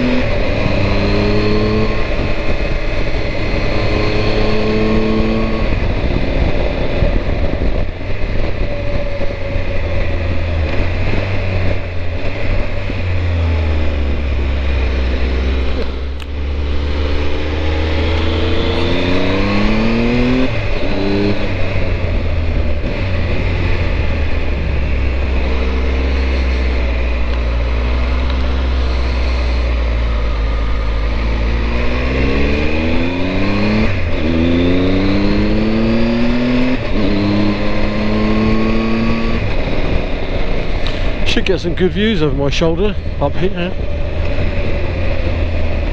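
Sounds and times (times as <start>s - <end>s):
motorcycle engine accelerating: 0.0s - 45.9s
wind and road noise: 0.0s - 45.9s.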